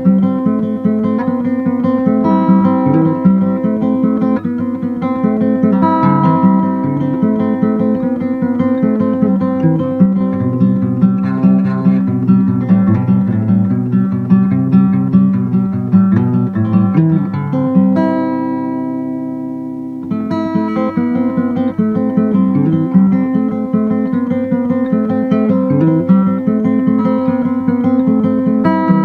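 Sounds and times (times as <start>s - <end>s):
acoustic guitar picking: 0.0s - 29.0s.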